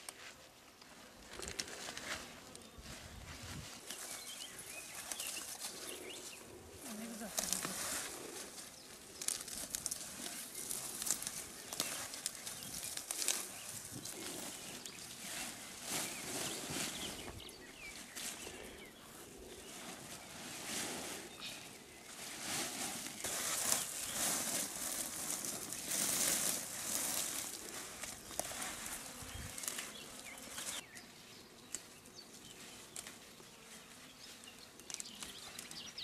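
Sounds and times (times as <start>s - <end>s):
leaves and undergrowth rustling: 0.0s - 36.0s.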